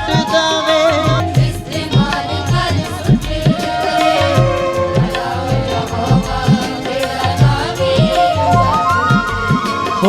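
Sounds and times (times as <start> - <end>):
hand drums playing: 0.0 - 10.0
wavering melody line: 0.0 - 10.0.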